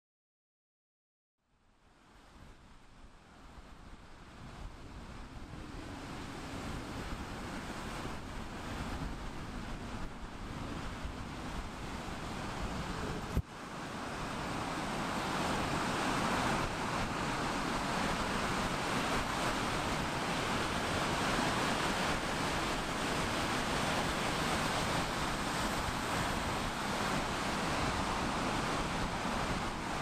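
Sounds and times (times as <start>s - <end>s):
ocean waves breaking on shore: 2.0s - 30.0s.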